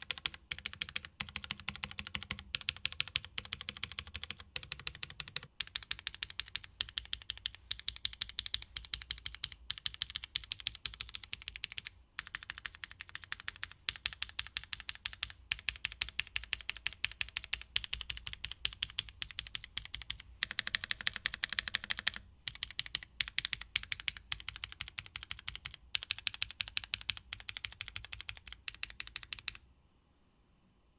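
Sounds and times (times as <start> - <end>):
mechanical keyboard typing: 0.0 - 29.6.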